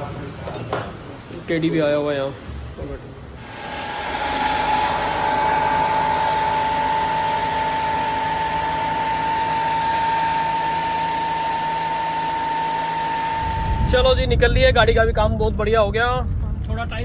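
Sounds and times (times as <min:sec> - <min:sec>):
fan motor whirring: 0:00.0 - 0:17.0
high whine: 0:02.5 - 0:17.0.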